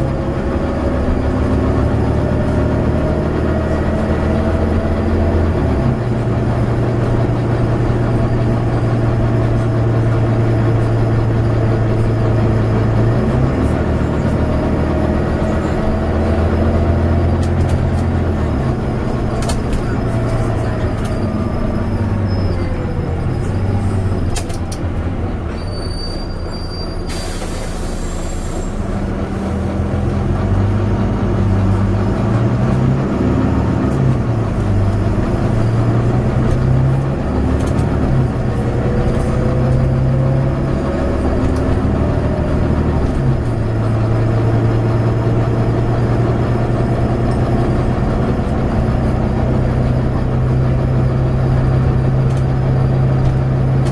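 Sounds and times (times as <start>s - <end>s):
bus engine running: 0.0s - 53.9s.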